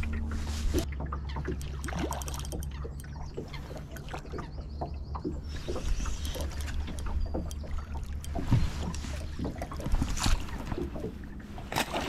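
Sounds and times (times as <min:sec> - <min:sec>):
rush of wind and water: 0:00.0 - 0:12.0
water slapping against boat hull: 0:00.0 - 0:12.0
wind rumble on microphone: 0:00.0 - 0:12.0.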